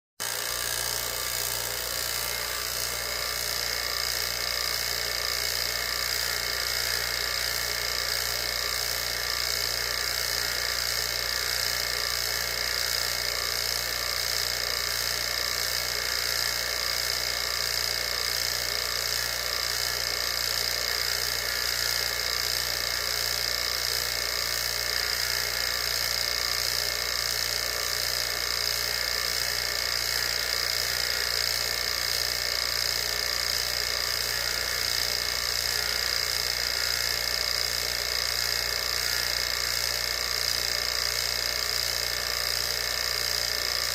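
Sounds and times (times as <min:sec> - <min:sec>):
vacuum pump motor whine: 0:00.2 - 0:43.9.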